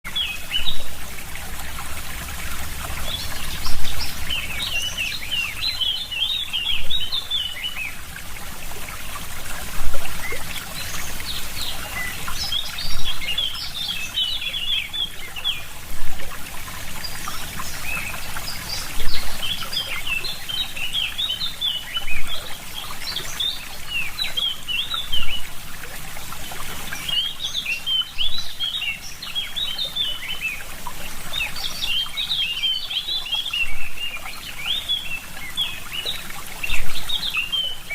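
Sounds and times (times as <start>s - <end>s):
small birds chirping: 0.1s - 8.2s, 8.8s - 25.6s, 26.2s - 37.9s.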